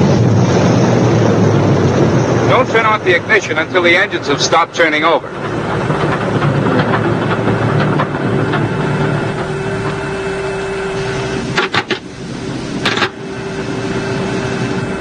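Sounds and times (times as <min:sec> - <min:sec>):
radial engine running down: 0:00.0 - 0:15.0
steady hum: 0:00.0 - 0:15.0.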